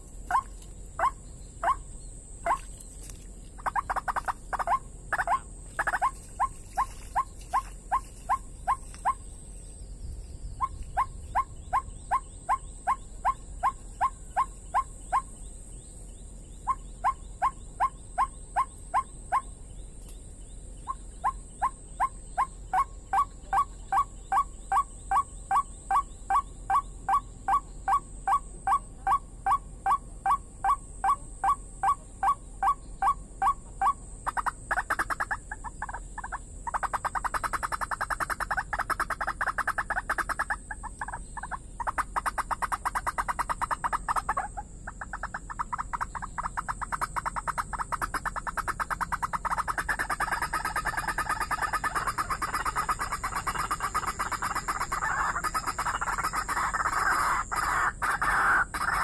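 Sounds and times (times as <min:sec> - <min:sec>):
rail bird calling: 0:00.0 - 0:03.0, 0:03.6 - 0:09.6, 0:10.4 - 0:15.5, 0:16.5 - 0:19.8, 0:20.8 - 0:59.0.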